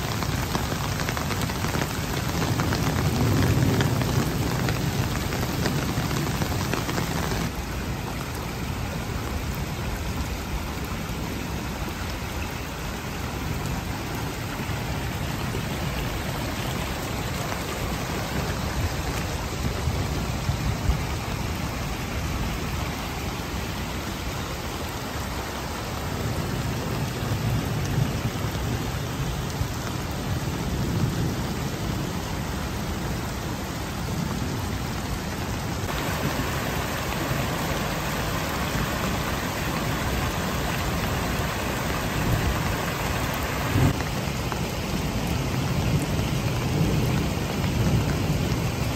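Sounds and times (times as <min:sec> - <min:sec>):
water rushing over grass: 0:00.0 - 0:48.9.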